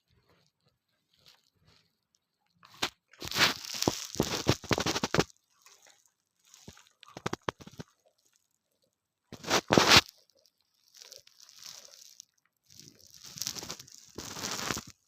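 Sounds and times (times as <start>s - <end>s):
crunching and chewing snack: 0.0s - 15.0s.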